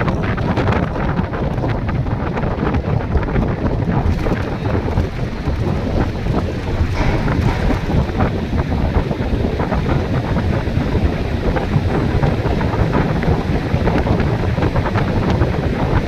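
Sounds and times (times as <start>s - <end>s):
wind buffeting microphone: 0.0s - 16.0s
road and engine noise: 0.2s - 16.0s.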